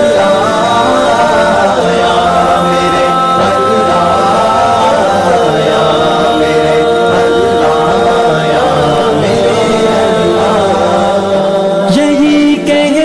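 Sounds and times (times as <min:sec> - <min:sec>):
voices chanting and humming: 0:00.0 - 0:13.0.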